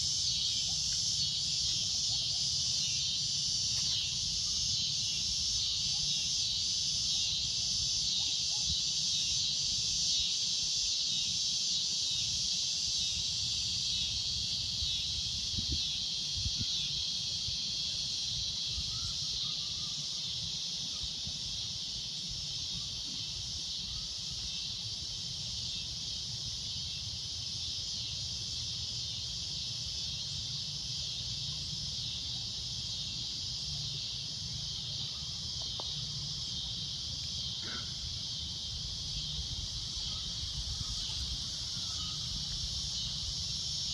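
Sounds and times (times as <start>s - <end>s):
cicadas droning: 0.0s - 43.9s.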